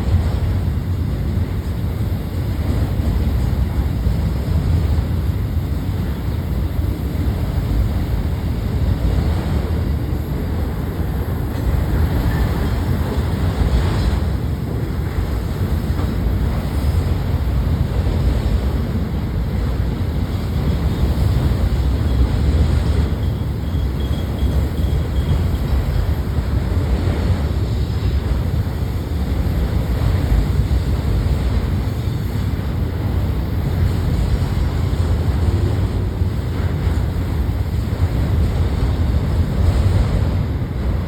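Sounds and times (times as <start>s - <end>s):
freight train rumbling: 0.0s - 41.0s.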